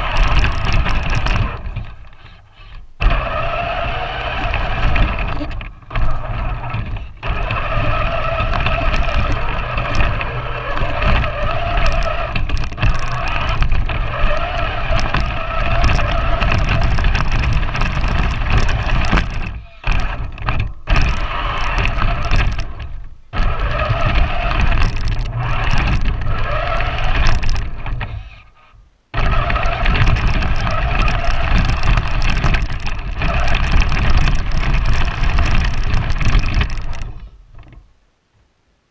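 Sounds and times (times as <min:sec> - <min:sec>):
electric motor and gearbox whining: 0:00.0 - 0:37.8.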